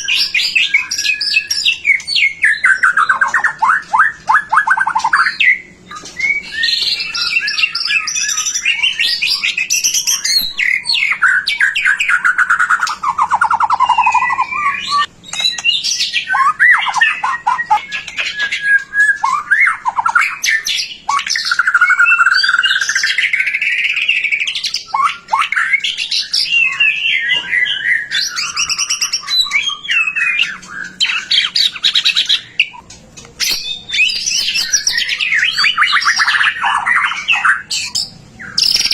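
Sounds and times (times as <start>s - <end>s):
songbird whistling and trilling: 0.0s - 38.9s.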